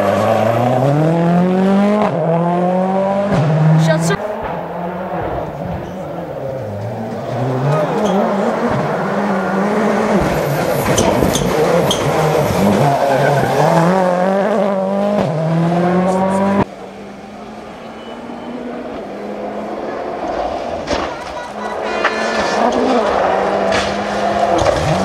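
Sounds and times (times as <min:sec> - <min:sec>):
rally car engine approaching: 0:00.0 - 0:21.0, 0:21.7 - 0:25.0
rally car engine at full throttle: 0:00.0 - 0:25.0.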